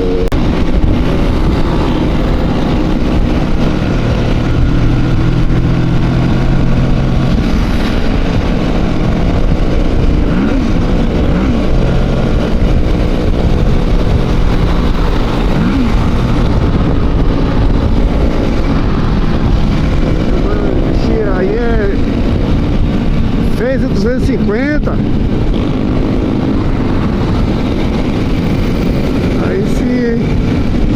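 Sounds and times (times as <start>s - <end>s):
motorcycle engine running: 0.0s - 30.9s
wind rushing over microphone: 0.0s - 30.9s.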